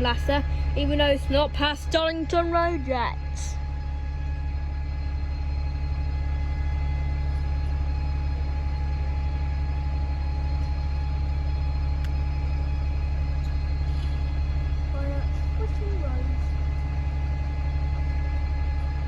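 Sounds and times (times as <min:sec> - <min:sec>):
faint hums: 0:00.0 - 0:19.0
low rumble: 0:00.0 - 0:19.0.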